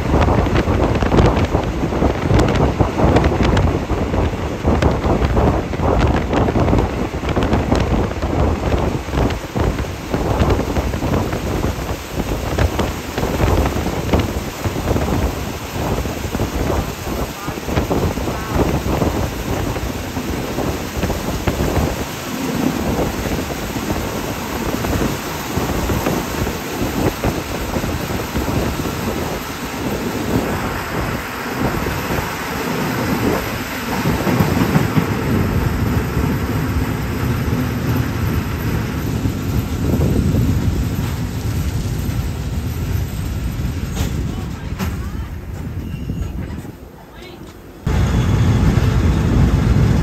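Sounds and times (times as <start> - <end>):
rush of air noise: 0.0 - 47.0, 47.6 - 50.0
train wheels rumbling on track: 0.0 - 50.0.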